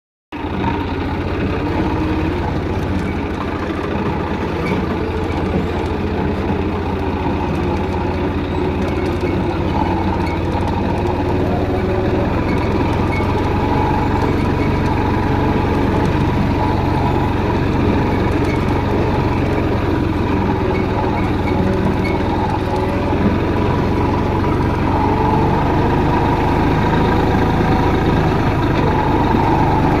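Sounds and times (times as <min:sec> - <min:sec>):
tractor engine running: 0:00.3 - 0:30.0.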